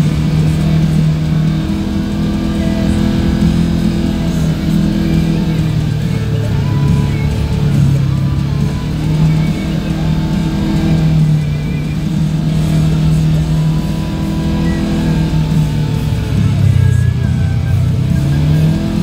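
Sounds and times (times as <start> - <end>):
guitar rock music: 0.0 - 19.0
off-road vehicle engine running: 0.0 - 19.0.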